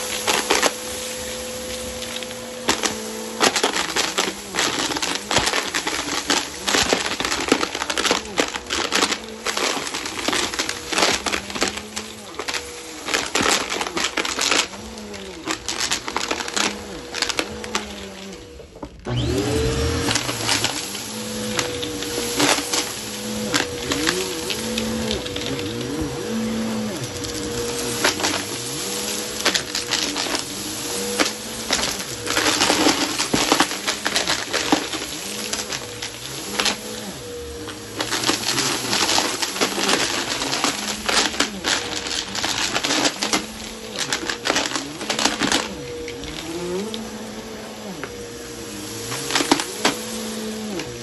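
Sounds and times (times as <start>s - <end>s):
debris clicking through vacuum: 0.0s - 51.0s
vacuum cleaner motor whine: 0.0s - 51.0s.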